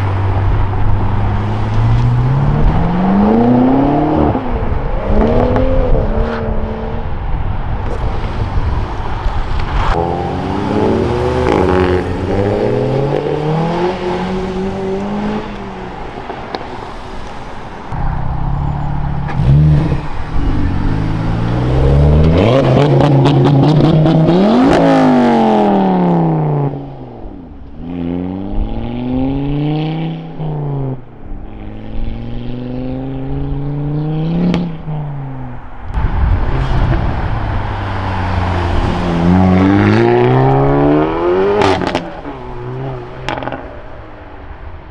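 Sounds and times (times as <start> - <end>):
cars accelerating past: 0.0 - 44.6.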